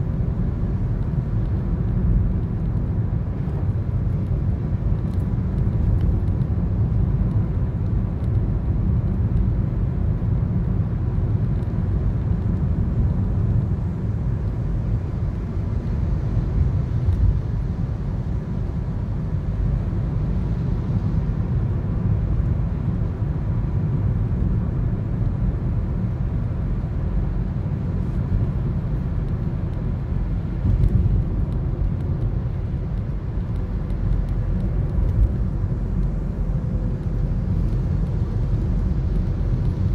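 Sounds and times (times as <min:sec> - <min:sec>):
road and engine rumble in car: 0:00.0 - 0:39.9.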